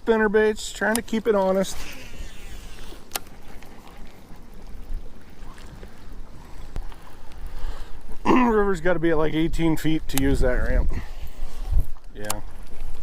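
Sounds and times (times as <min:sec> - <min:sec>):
wind buffeting microphone: 0:01.0 - 0:13.0.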